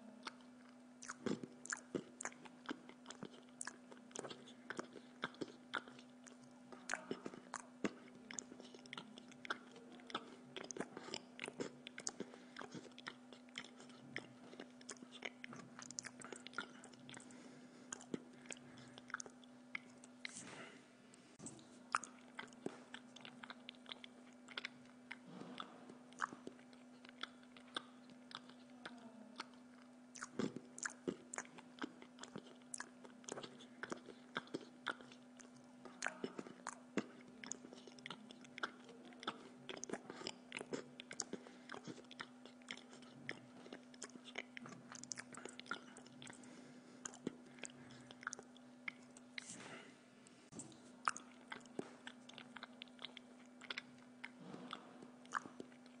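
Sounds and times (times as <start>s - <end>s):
steady low hum: 0.0s - 56.0s
person chewing: 0.2s - 56.0s.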